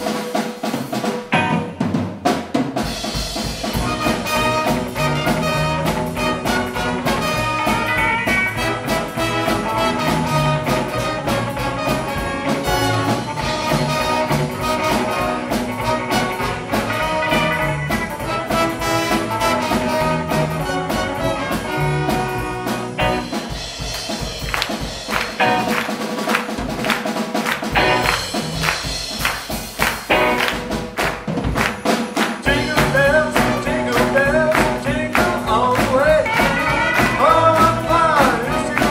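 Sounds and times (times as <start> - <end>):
swing band playing: 0.0 - 38.9
horn section: 3.4 - 30.8, 32.4 - 38.9.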